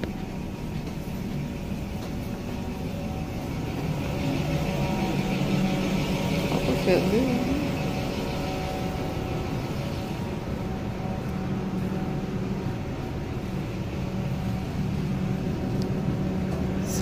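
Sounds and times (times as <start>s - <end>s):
ventilation system hum: 0.0s - 17.0s.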